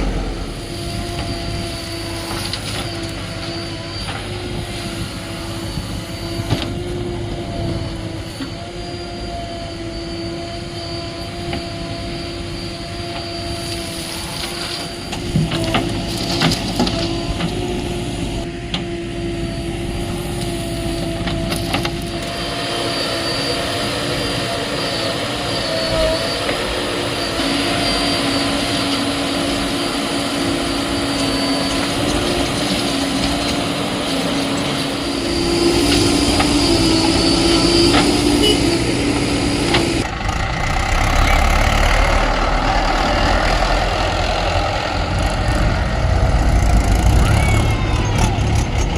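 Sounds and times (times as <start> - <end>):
backhoe diesel engine droning: 0.0 - 9.9, 13.4 - 48.9.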